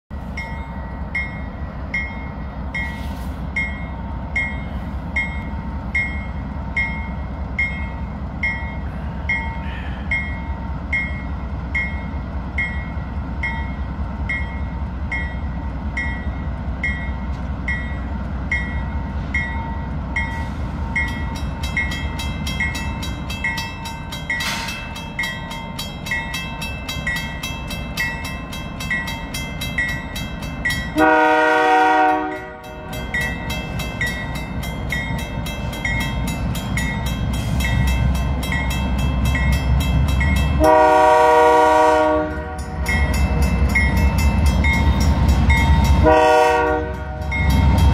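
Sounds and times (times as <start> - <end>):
diesel locomotives rumbling: 0.1 - 47.9.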